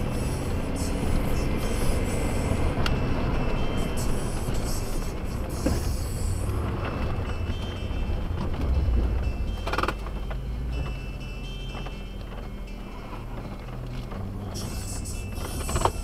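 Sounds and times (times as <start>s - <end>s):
rattle of truck cab and body: 0.0s - 16.0s
truck engine running under load: 0.0s - 16.0s.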